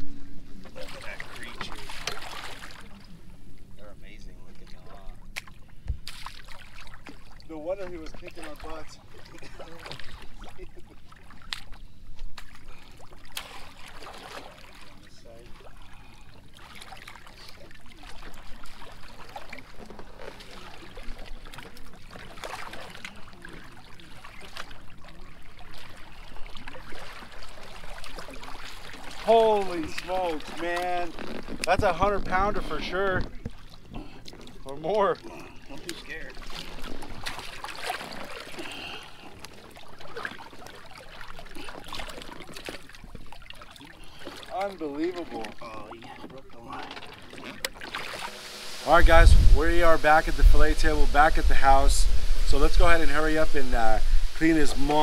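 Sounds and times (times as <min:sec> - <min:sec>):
water splashing: 0:00.0 - 0:55.0.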